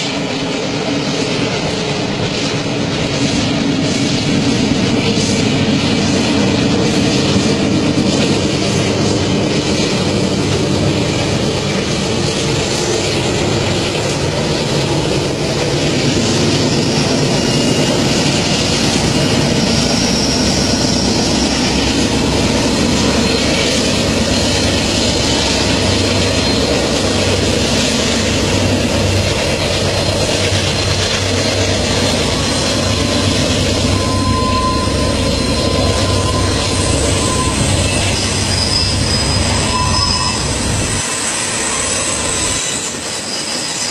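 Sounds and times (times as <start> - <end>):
diesel locomotives running: 0.0 - 43.9.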